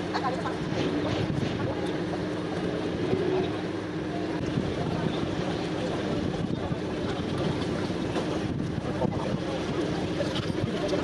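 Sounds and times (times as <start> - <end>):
engine-like hum: 0.0 - 11.0
wind on microphone: 0.0 - 11.0.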